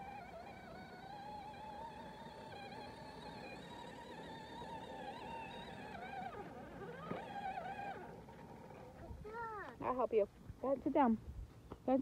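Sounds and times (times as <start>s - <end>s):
toy tractor electric motor whining: 0.0s - 9.8s.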